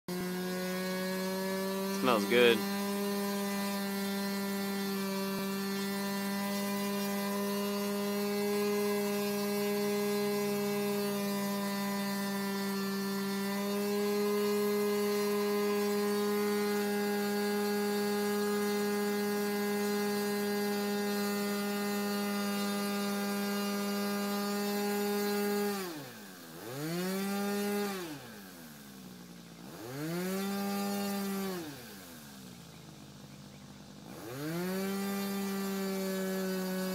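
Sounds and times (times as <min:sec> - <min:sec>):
model airplane engine running: 0:00.1 - 0:27.0, 0:27.6 - 0:36.9.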